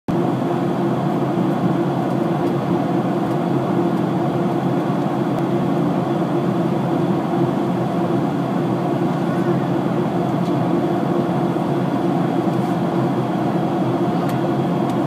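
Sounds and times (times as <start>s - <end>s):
airliner engine drone: 0.1s - 15.0s.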